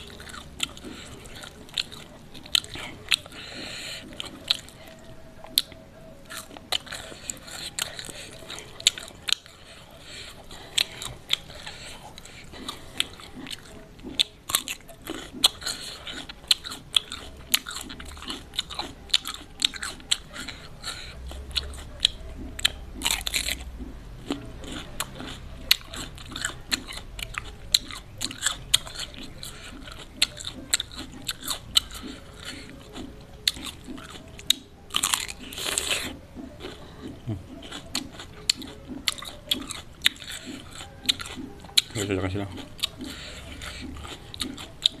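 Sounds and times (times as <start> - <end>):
crunchy chewing of cucumber: 0.0 - 45.0.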